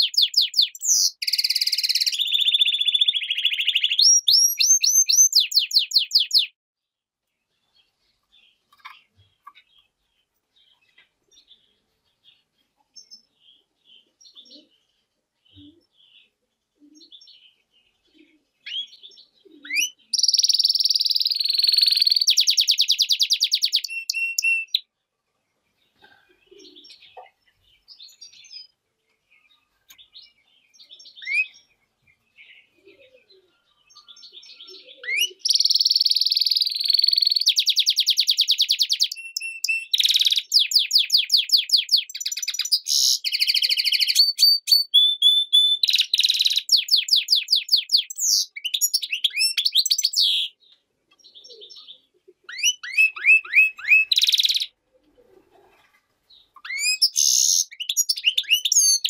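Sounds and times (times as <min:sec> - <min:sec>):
bird singing with trills: 0:00.0 - 0:06.6, 0:07.6 - 0:24.9, 0:25.8 - 0:54.8, 0:56.3 - 0:59.0.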